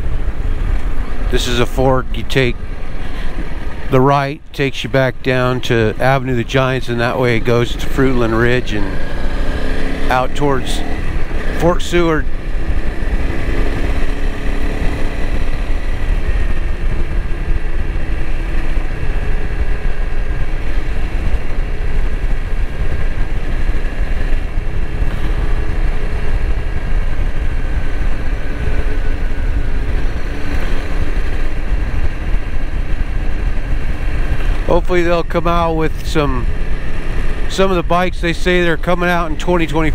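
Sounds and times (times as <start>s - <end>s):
deep wind rush: 0.0s - 39.9s
motorcycle engine running: 0.0s - 39.9s.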